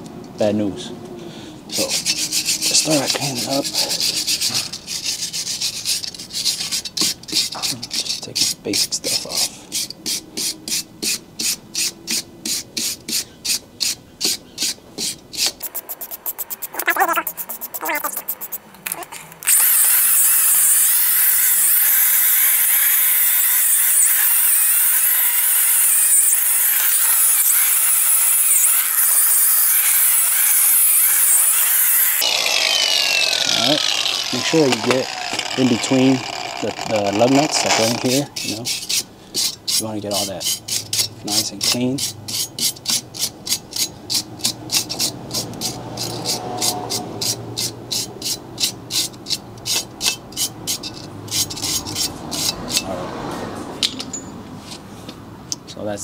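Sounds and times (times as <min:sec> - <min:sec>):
angle grinder wire wheel scraping: 0:01.7 - 0:11.2, 0:12.8 - 0:52.9.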